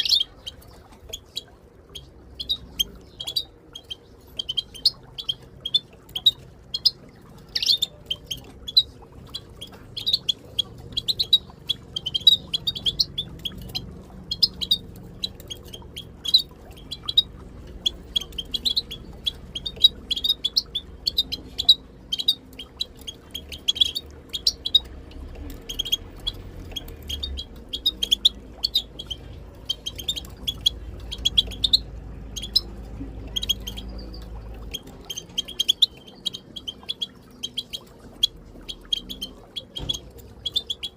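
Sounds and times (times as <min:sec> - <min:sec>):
finches twittering: 0:00.0 - 0:40.9.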